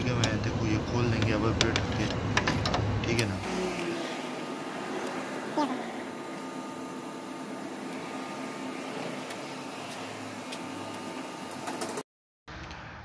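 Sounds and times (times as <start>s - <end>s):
machine whirring hum: 0.0s - 12.0s.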